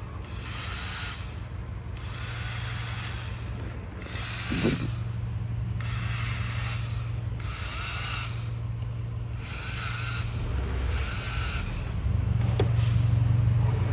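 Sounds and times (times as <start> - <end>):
car engine running: 2.0 - 13.9.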